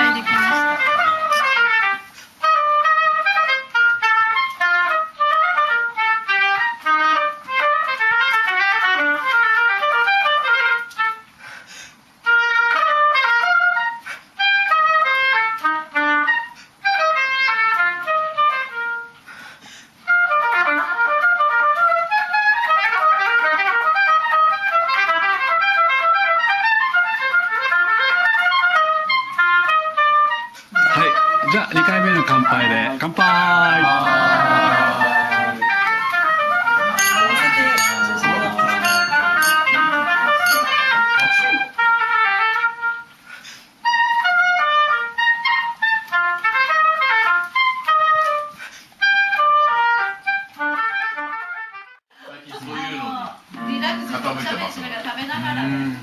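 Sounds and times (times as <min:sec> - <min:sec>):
solo oboe playing: 0:00.0 - 0:11.3, 0:12.2 - 0:19.2, 0:20.0 - 0:52.0, 0:53.5 - 0:54.7.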